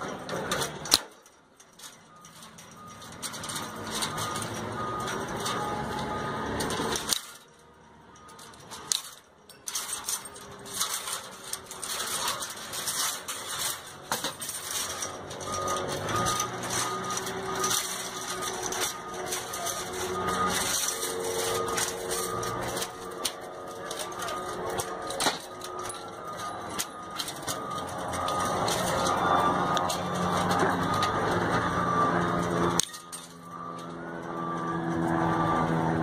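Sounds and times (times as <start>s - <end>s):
fence wire bending clicks: 0.0s - 31.5s, 32.4s - 33.9s
vehicle engine running: 0.0s - 36.0s
reversing beeper: 1.9s - 36.0s.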